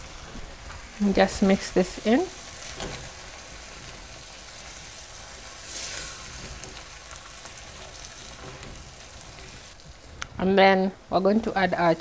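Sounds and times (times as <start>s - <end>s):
chicken sizzling in a pan: 0.0s - 10.2s.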